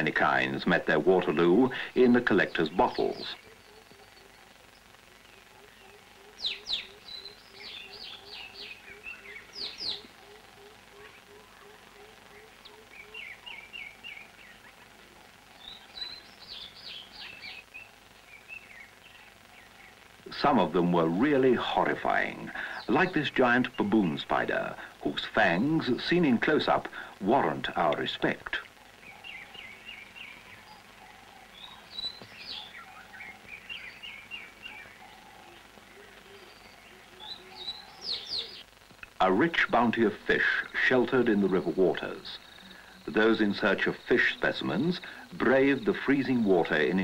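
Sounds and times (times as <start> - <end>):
birds calling and twittering: 0.0 - 47.0
steady hiss: 0.0 - 47.0.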